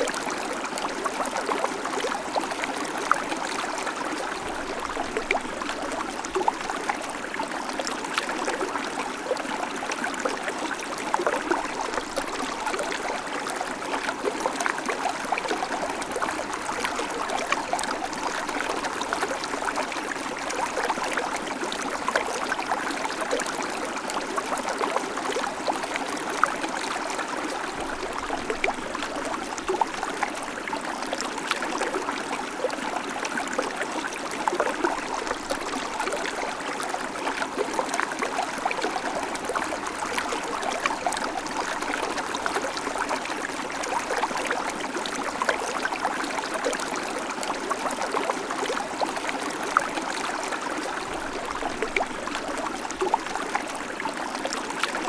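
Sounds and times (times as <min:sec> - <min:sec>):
creek water over stones: 0:00.0 - 0:55.0.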